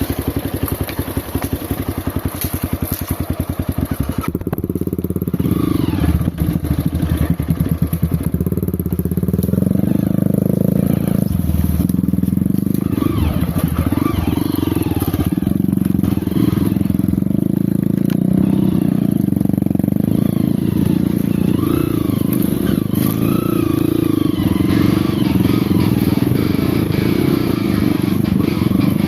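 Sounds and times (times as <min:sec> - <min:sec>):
motorcycle engine running steadily: 0:00.0 - 0:29.0.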